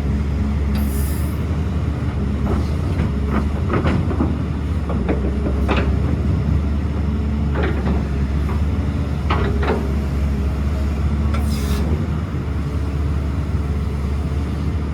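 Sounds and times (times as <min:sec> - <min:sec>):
excavator diesel engine humming: 0:00.0 - 0:14.9.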